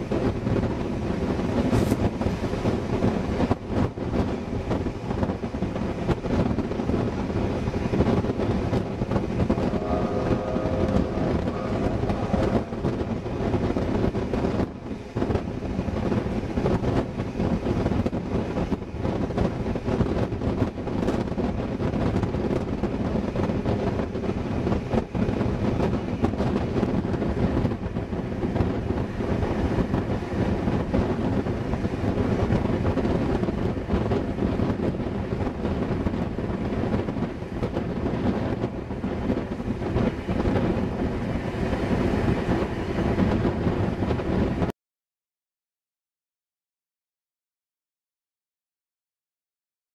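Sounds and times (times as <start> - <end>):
train wheels rumbling on track: 0.0 - 44.7
wind buffeting microphone: 0.0 - 44.7.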